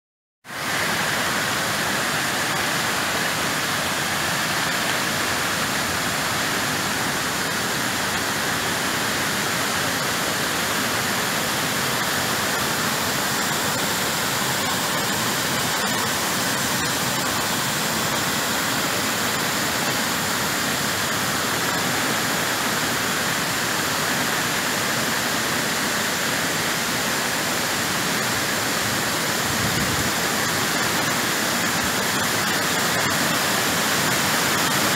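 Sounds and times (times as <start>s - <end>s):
runoff water rushing: 0.5s - 34.9s.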